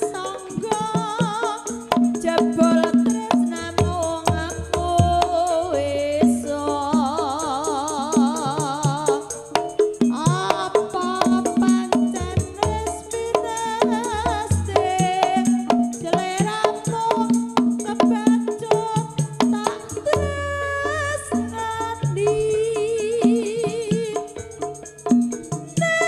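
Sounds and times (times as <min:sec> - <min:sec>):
drums and struck percussion: 0:00.0 - 0:26.0.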